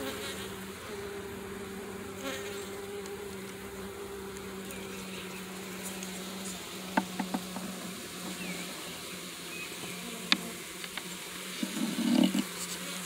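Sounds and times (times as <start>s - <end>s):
bees buzzing: 0.0s - 13.0s
rustle: 0.0s - 13.0s.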